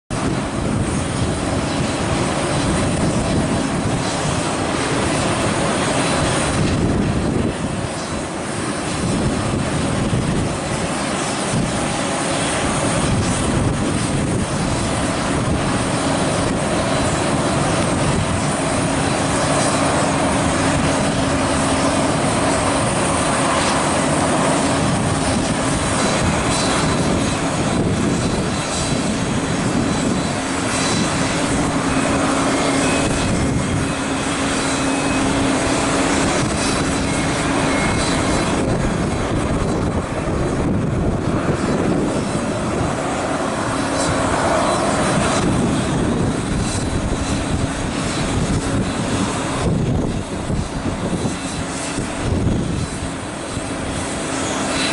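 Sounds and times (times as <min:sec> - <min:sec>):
aircraft engine drone: 0:00.1 - 0:54.9.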